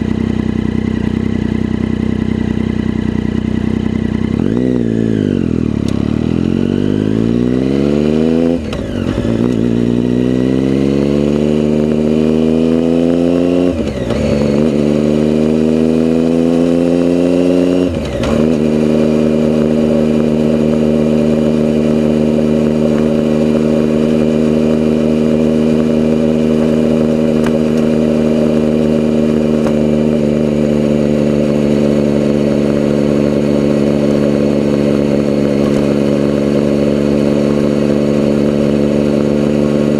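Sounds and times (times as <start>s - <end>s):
vehicle engine accelerating: 0.0s - 39.9s.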